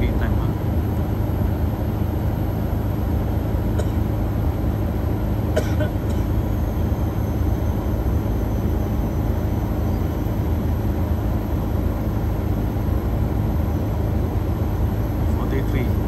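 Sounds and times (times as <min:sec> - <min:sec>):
air conditioning machinery hum: 0:00.0 - 0:16.0.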